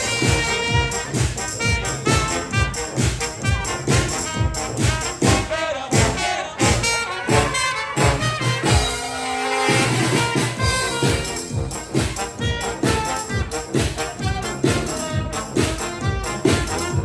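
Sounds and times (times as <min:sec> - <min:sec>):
oompah brass band playing: 0:00.0 - 0:17.0.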